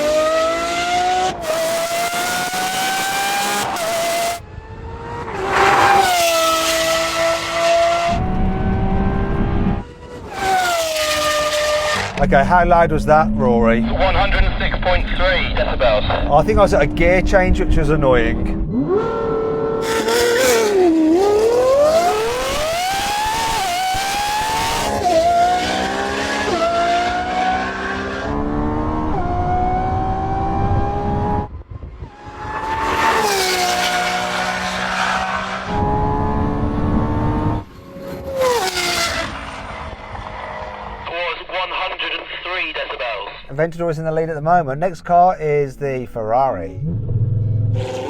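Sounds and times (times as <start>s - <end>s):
supercar engine at full throttle: 0.0s - 41.4s, 46.7s - 48.0s.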